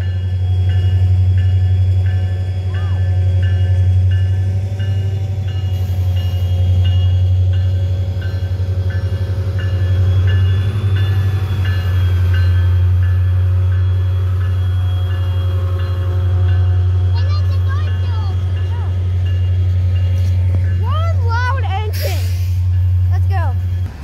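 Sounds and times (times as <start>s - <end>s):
locomotive bell ringing: 0.0s - 23.9s
locomotive engine rumble: 0.0s - 24.0s.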